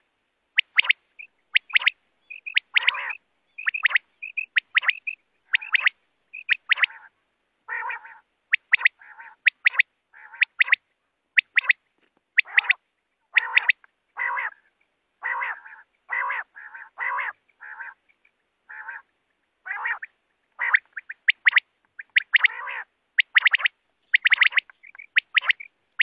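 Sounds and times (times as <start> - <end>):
quail calling: 0.6 - 10.8, 11.4 - 11.8, 12.4 - 26.0.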